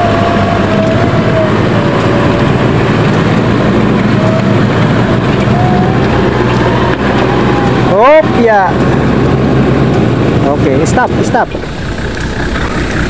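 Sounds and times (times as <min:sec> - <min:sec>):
off-road vehicle engine running: 0:00.0 - 0:13.0
wavering whine: 0:00.0 - 0:13.0.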